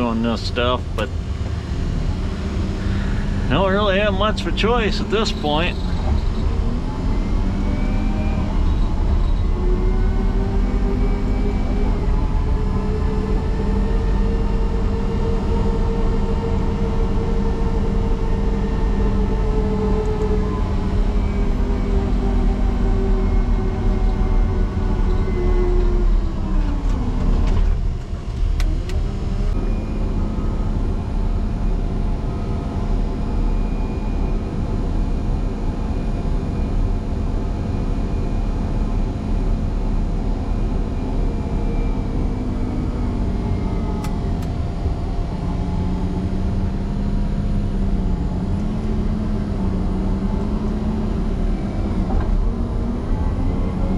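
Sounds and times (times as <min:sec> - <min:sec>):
diesel engine working hard: 0:00.0 - 0:53.9.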